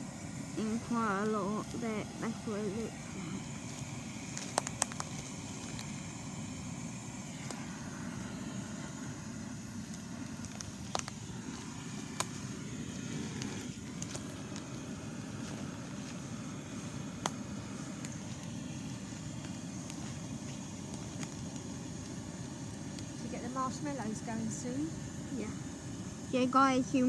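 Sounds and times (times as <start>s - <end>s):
bonfire crackling and popping: 0.0s - 27.0s.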